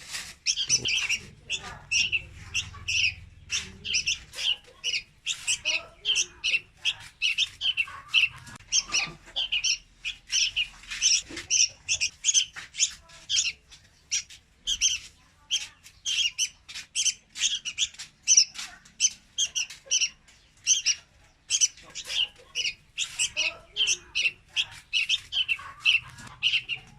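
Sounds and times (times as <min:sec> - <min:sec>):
birds chirping: 0:00.0 - 0:26.9.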